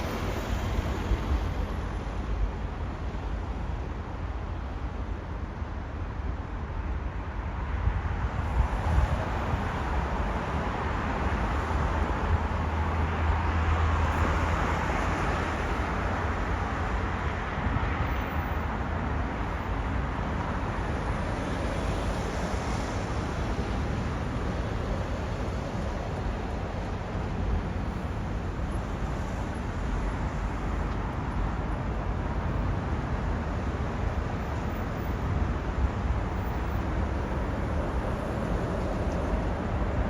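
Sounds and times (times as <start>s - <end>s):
train passing rumble: 0.0s - 40.0s.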